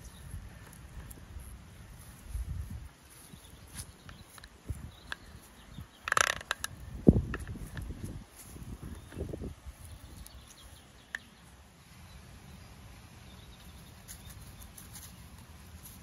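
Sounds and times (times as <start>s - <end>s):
soft low rustles: 0.0s - 11.0s, 13.6s - 16.0s.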